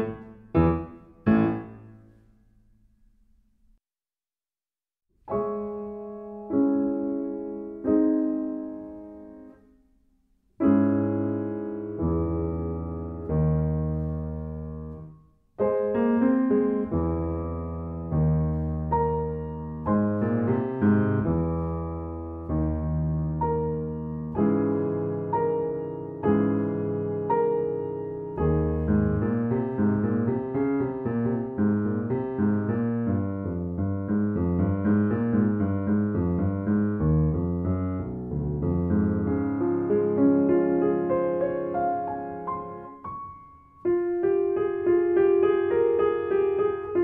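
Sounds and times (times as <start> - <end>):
grand piano chords: 0.0 - 3.4, 5.2 - 47.0.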